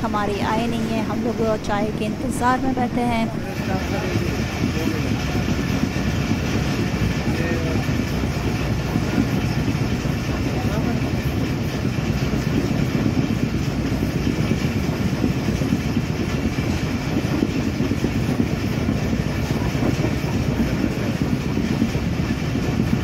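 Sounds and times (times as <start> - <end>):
train carriage rattling: 0.0 - 23.0
train wheels on rails: 0.0 - 23.0.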